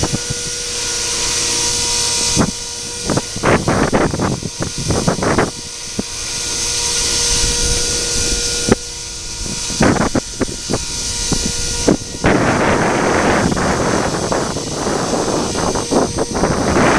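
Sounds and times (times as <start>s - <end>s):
model helicopter drone: 0.0s - 16.9s
wind buffeting microphone: 0.0s - 16.9s.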